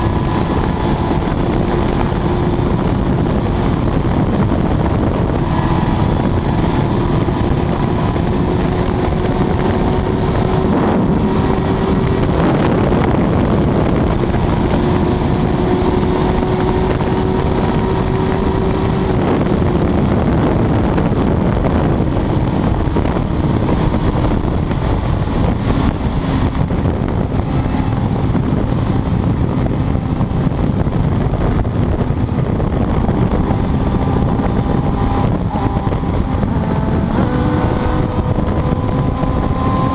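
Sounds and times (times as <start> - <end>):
motorcycle engine running hard: 0.0 - 39.9
wind rush: 0.0 - 39.9.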